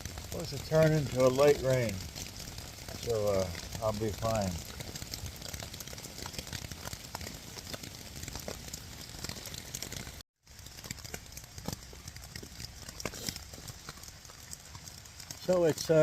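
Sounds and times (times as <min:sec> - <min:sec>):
rain hissing: 0:00.0 - 0:16.0
raindrops tapping tent fabric: 0:00.0 - 0:16.0.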